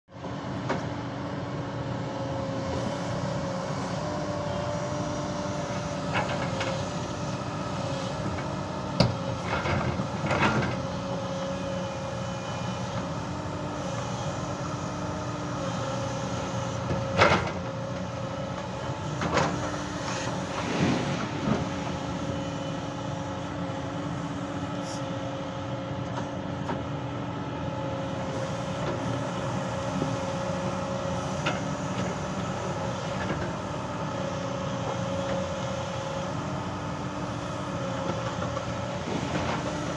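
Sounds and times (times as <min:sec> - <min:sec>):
excavator diesel engine running: 0:00.2 - 0:39.9.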